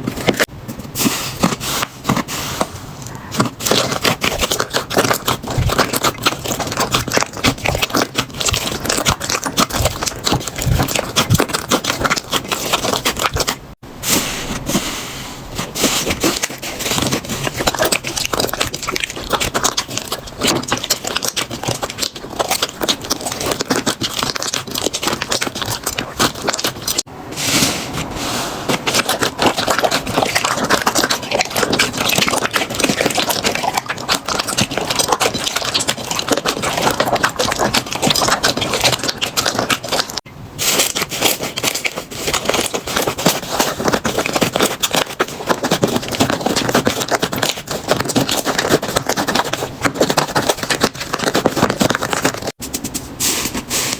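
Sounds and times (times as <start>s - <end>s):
slime crackling and popping: 3.4s - 13.8s, 16.0s - 27.1s, 28.7s - 52.6s.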